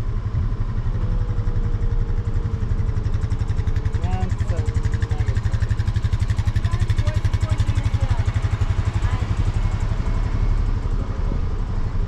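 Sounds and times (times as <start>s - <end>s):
pickup engine and road rumble: 0.0s - 12.0s.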